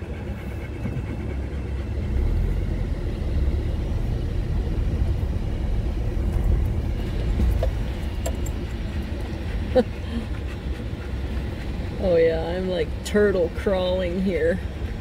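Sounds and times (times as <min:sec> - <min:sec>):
car on gravel road rumble: 0:00.0 - 0:15.0.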